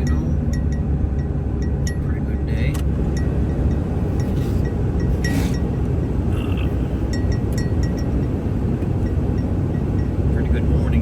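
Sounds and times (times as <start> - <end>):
vehicle driving rumble: 0.0 - 11.0.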